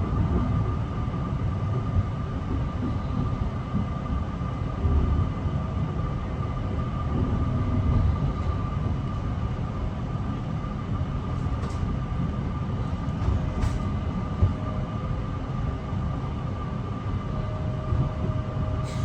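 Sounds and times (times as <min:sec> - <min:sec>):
electric train rumble and whine: 0:00.0 - 0:19.0.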